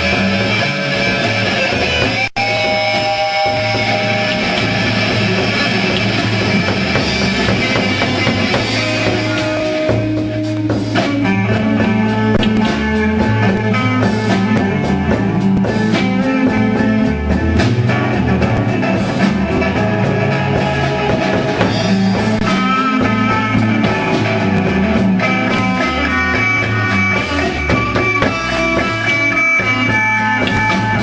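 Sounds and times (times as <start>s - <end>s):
bass guitar: 0.0s - 31.0s
drum kit: 0.0s - 31.0s
electric guitar notes: 0.0s - 31.0s.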